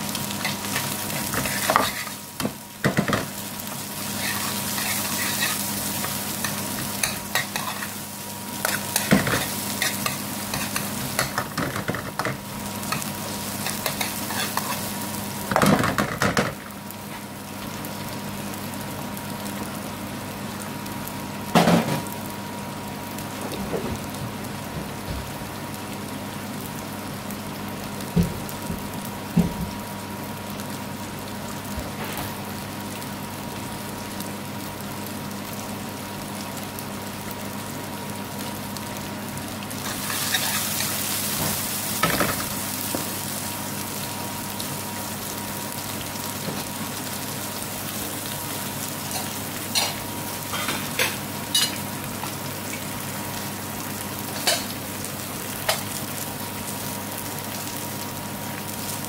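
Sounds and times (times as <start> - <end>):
onion sizzling in a frying pan: 0.0 - 59.0.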